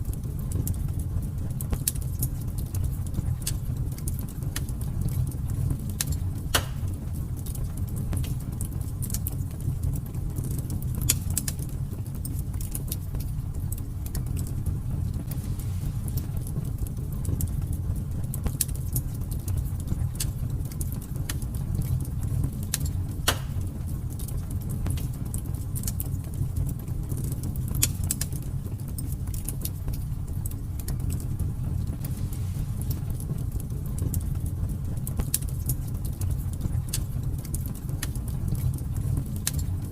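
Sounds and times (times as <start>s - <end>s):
fire crackling and popping: 0.0s - 39.9s
low roar of flames: 0.0s - 39.9s.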